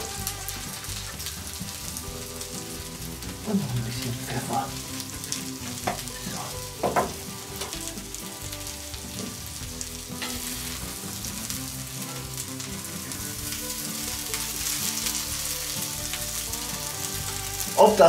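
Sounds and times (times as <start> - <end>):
rice sizzling in a pan: 0.0 - 18.0.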